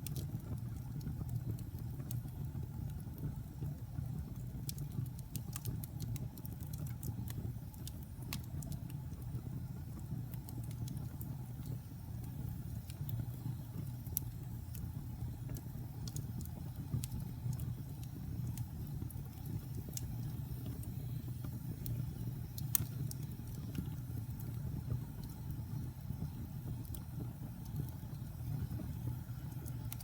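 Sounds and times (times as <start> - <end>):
burning wood crackling and popping: 0.0 - 30.0
fire rumbling in fireplace: 0.0 - 30.0.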